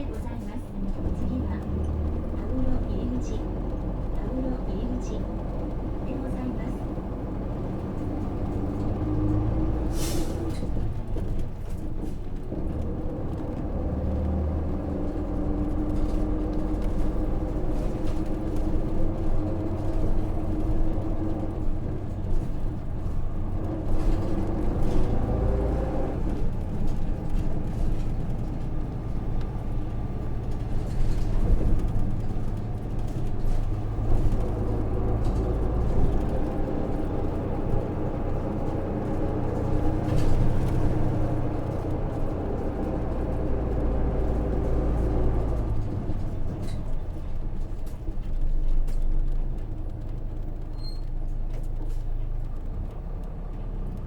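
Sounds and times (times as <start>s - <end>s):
bus diesel engine changing gears: 0.0s - 54.0s.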